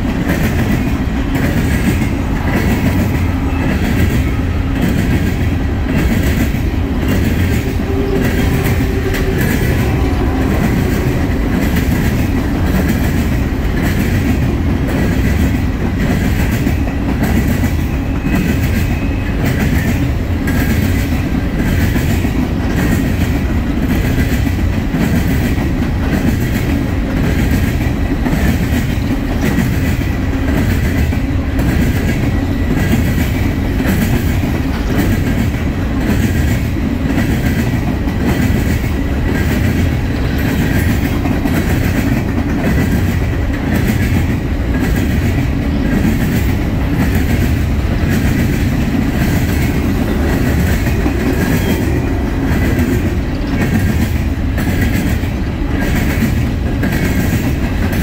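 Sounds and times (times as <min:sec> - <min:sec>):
clickety-clack over rail joints: 0:00.0 - 0:58.0
steel wheels rumbling on rail: 0:00.0 - 0:58.0.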